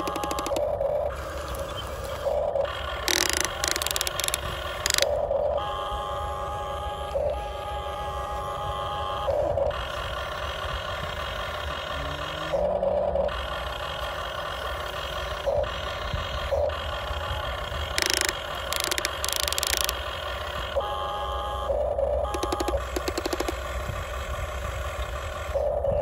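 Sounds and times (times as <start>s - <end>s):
toy excavator motors whining: 0.0s - 26.0s.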